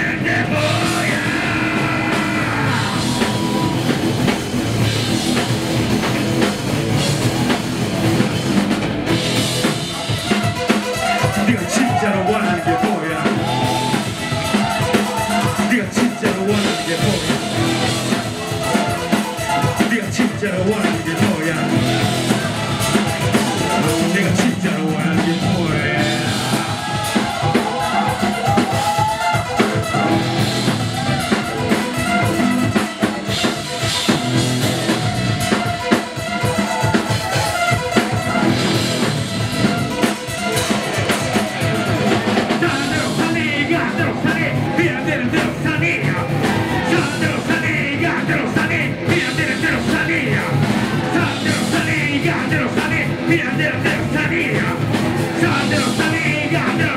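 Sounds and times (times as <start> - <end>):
person singing: 0.0 - 4.0, 9.8 - 38.8, 39.6 - 56.9
drum kit: 0.0 - 56.9
electric guitars: 0.0 - 56.9
live rock band playing: 0.0 - 56.9.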